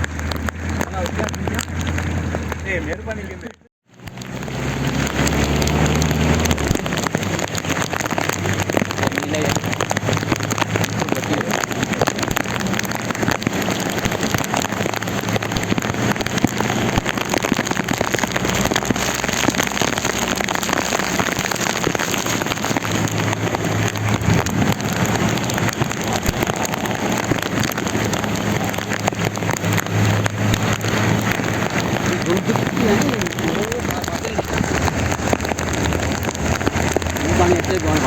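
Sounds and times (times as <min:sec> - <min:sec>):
heavy rain patter: 0:00.0 - 0:38.0
low vehicle engine hum: 0:00.0 - 0:38.0.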